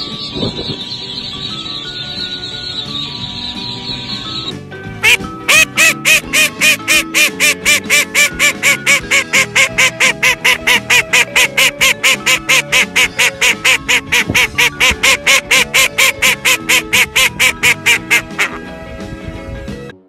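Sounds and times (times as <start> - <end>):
background music: 0.0 - 20.0
rubber duck squeaks: 0.3 - 18.6.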